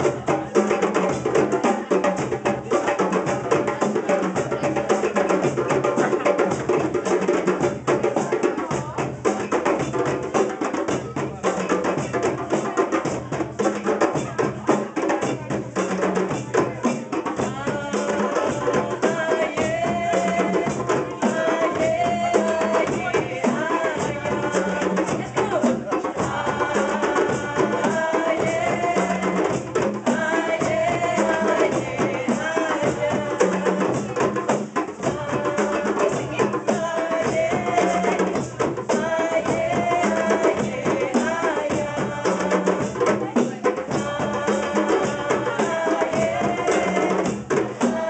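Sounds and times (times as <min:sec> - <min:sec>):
djembe drums playing: 0:00.0 - 0:48.0
woman singing a chant: 0:00.0 - 0:48.0.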